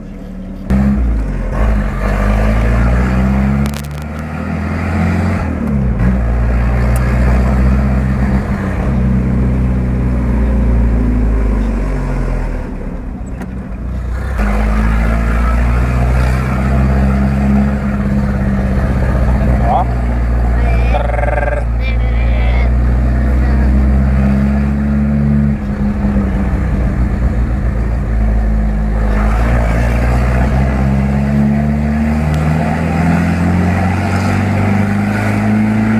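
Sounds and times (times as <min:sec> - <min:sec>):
loud car engine revving: 0:00.6 - 0:35.9.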